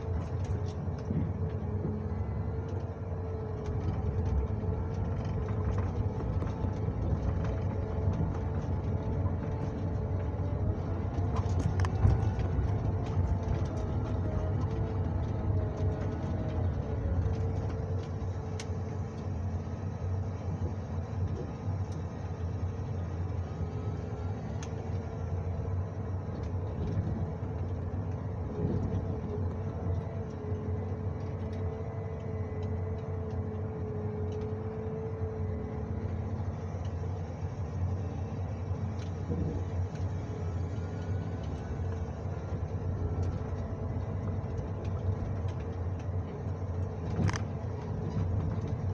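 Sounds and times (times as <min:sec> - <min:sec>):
diesel engine humming: 0:00.0 - 0:48.9.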